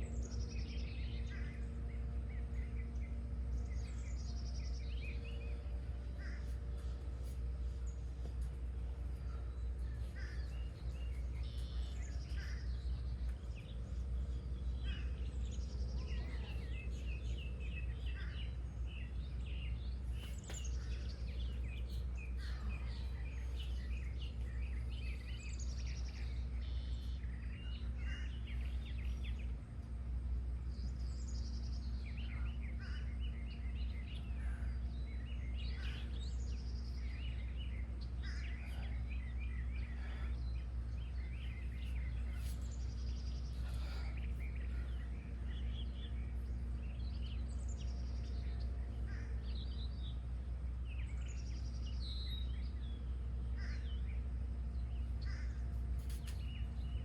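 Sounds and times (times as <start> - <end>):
steady low rumble: 0.0 - 57.0
wild birds singing: 0.0 - 57.0.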